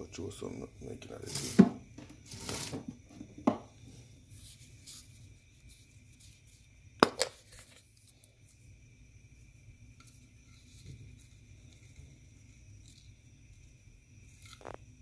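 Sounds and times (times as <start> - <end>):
low room noise: 0.0 - 15.0.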